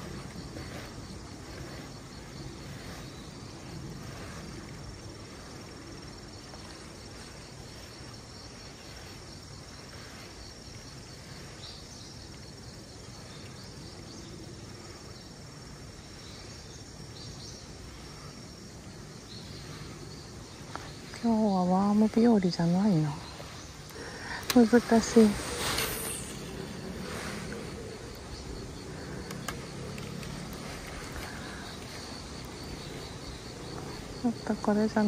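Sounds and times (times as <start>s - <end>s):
insects shrilling: 0.0s - 35.0s.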